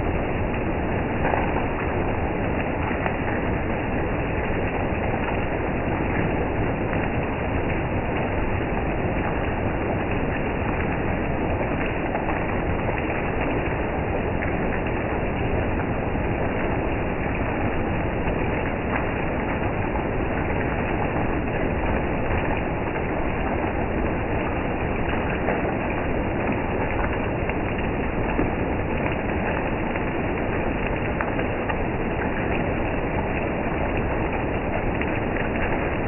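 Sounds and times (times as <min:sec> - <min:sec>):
heavy rain on leaves: 0:00.0 - 0:36.0.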